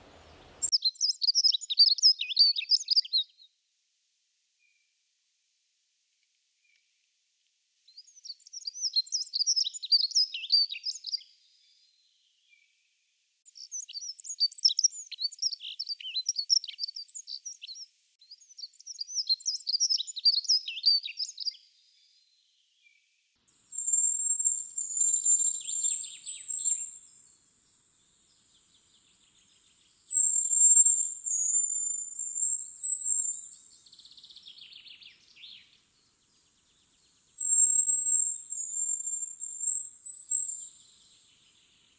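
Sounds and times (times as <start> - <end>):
bird warbling song: 0.0 - 3.5, 7.9 - 12.8, 13.5 - 23.0, 23.8 - 27.4, 28.3 - 41.9.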